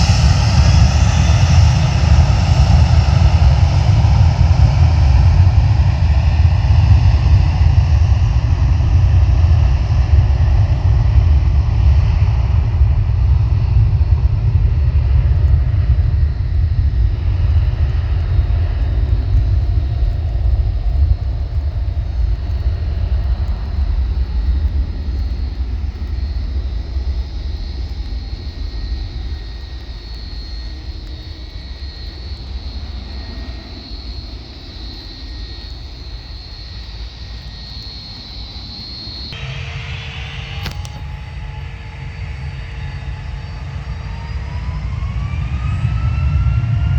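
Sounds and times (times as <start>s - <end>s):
high engine whine: 0.0s - 46.9s
jet engine rumble: 0.0s - 46.9s.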